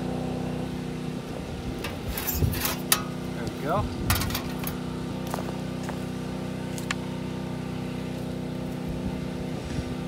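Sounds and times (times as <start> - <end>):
generator engine humming: 0.0 - 10.0.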